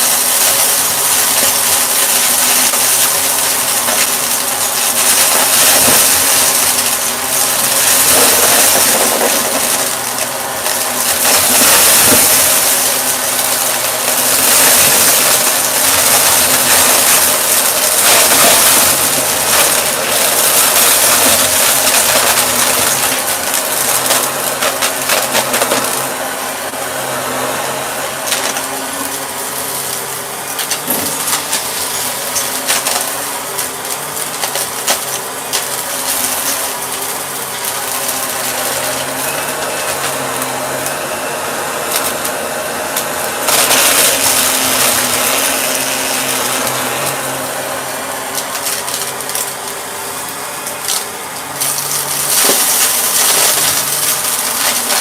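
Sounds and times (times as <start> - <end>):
vacuum cleaner running: 0.0 - 34.2, 35.2 - 55.0.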